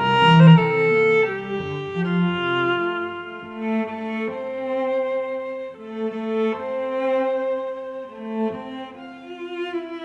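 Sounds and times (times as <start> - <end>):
bowed strings holding slow notes: 0.0 - 10.0.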